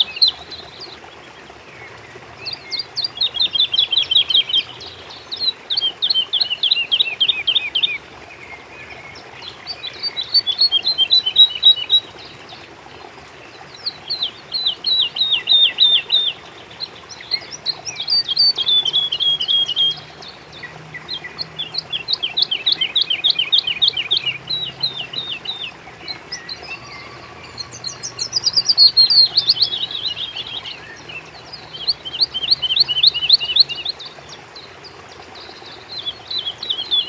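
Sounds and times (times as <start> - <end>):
songbirds trilling: 0.0 - 37.0.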